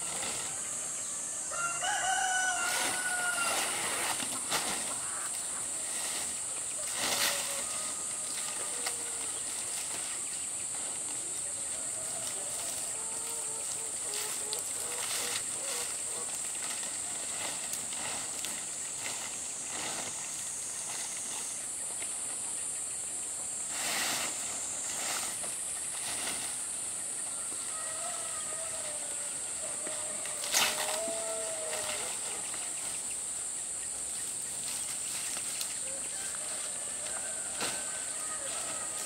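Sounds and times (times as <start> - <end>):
dry palm fronds rustling: 0.0 - 0.8, 1.5 - 22.6, 23.4 - 33.4, 34.2 - 39.0
high-pitched insect drone: 0.0 - 39.0.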